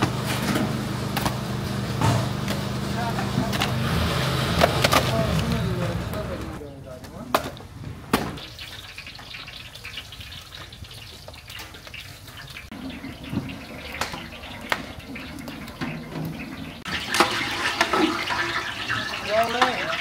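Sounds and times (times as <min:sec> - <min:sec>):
wood fire crackling and hissing: 0:00.0 - 0:06.6, 0:07.6 - 0:20.0.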